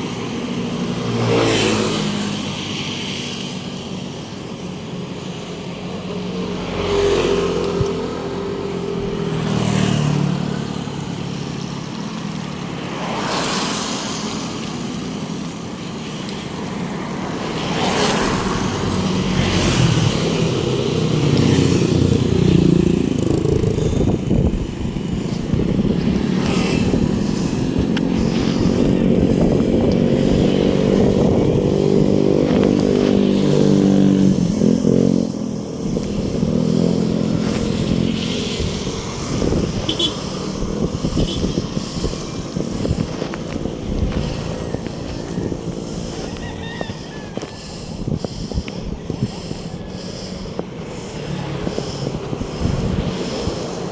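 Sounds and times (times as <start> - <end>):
car engines passing: 0.0 - 53.9
motorcycle engines passing: 0.0 - 53.9
steady engine hum: 0.0 - 53.9.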